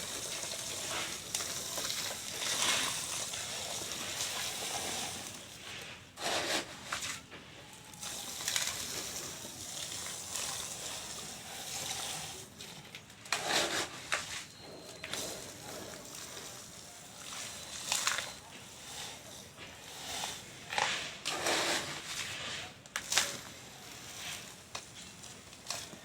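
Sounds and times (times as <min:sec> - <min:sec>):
powder pouring into water: 0:00.0 - 0:06.7, 0:07.9 - 0:14.3, 0:15.0 - 0:26.0.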